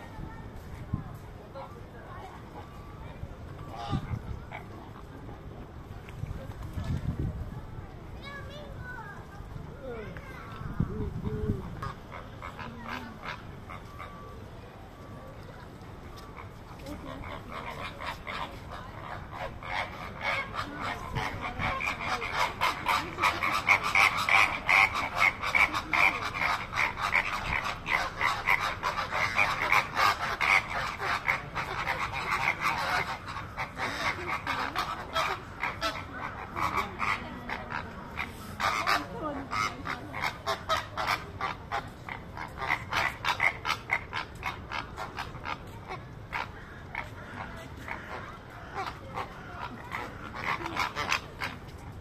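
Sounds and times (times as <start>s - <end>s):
flamingos honking: 1.5s - 5.2s, 10.4s - 15.4s, 16.0s - 52.0s.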